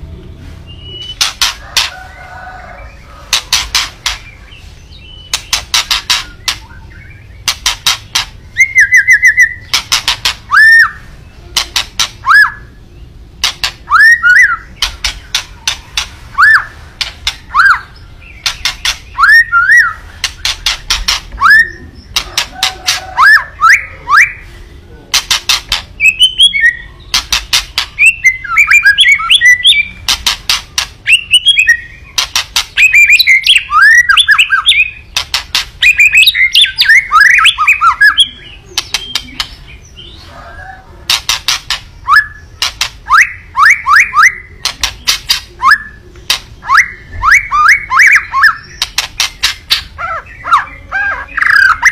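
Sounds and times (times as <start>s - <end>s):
bird singing with rattling clicks: 1.0s - 2.0s, 3.3s - 4.5s, 5.2s - 12.6s, 13.4s - 23.8s, 25.1s - 39.9s, 41.1s - 51.9s.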